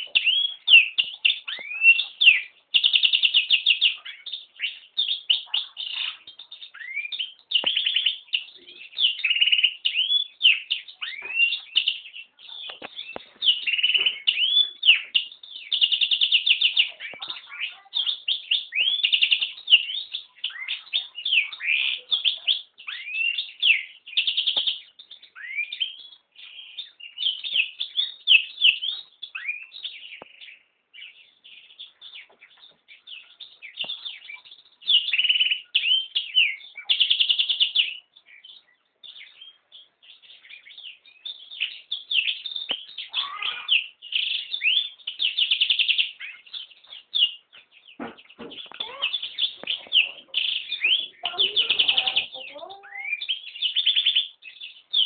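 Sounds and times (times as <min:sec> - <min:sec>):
bird singing trills and chirps: 0:00.0 - 0:55.0.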